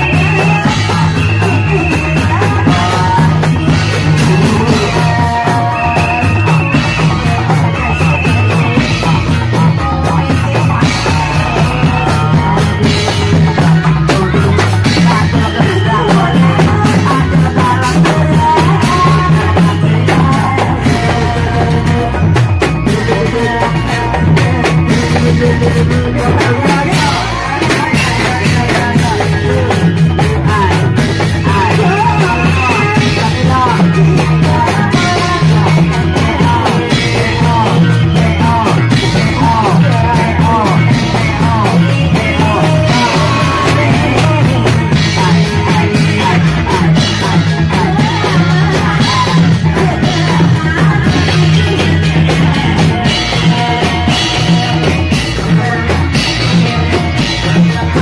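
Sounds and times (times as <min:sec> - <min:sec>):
fast drumming: 0:00.0 - 0:58.0
wavering melody line: 0:00.0 - 0:58.0.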